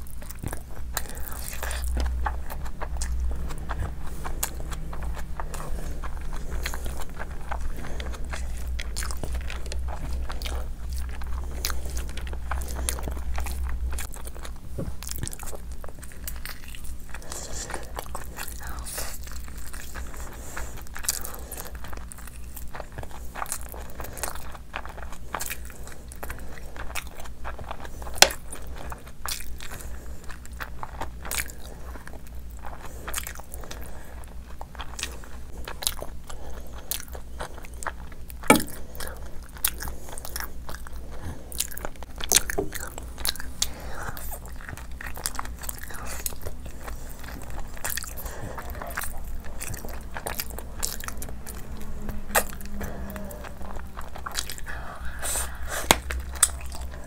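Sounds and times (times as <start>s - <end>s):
crunching into meat on bone: 0.0s - 57.0s
steady low hum: 0.0s - 57.0s
wet chewing and smacking: 0.0s - 57.0s.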